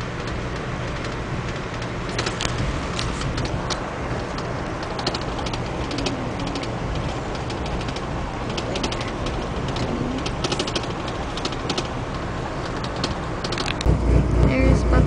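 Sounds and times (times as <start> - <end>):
light clicks and rattles: 0.0 - 13.9
train car running rumble: 0.0 - 15.0.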